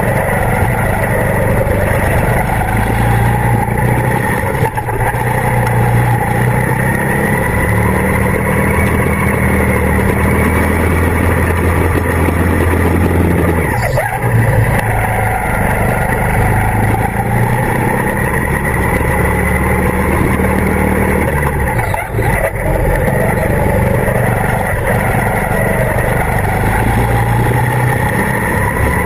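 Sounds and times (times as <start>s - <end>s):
go-kart engine running: 0.0s - 29.0s.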